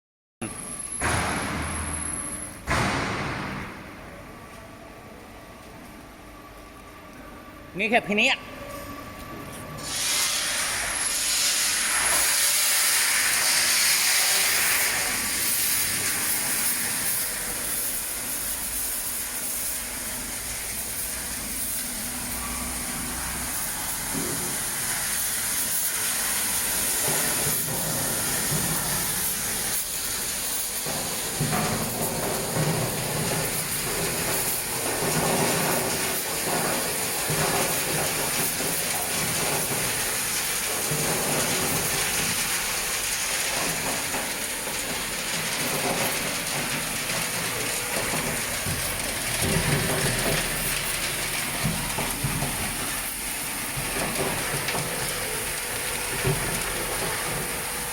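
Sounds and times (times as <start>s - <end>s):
high-pressure water jets spraying: 9.8s - 57.9s.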